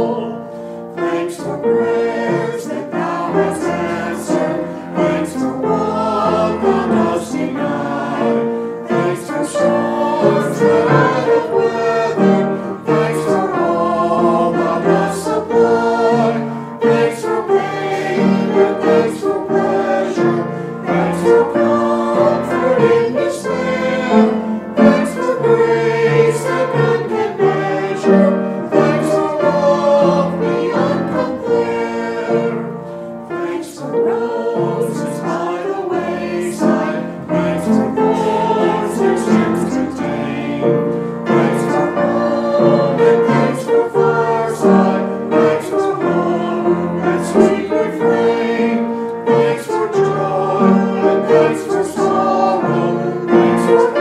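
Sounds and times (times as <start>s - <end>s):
choir singing sacred music: 0.0s - 54.0s.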